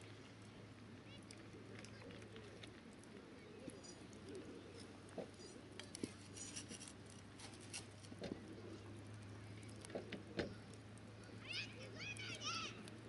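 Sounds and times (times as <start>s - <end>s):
campfire crackling: 0.0s - 13.0s
low steady hum: 0.0s - 13.0s.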